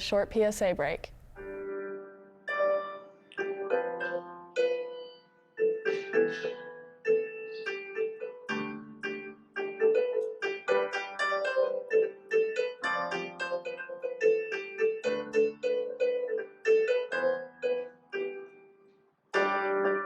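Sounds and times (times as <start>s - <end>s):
piano melody: 1.4s - 20.0s.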